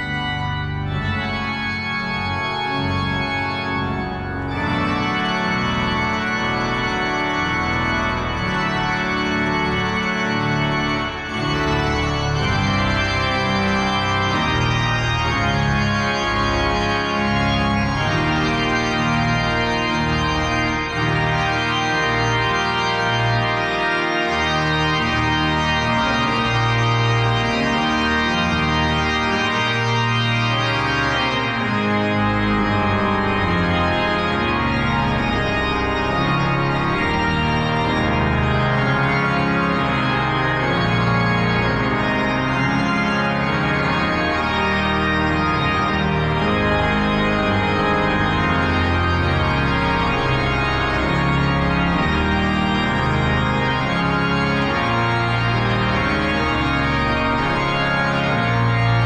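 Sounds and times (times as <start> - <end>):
pipe organ playing chords: 0.0 - 59.0.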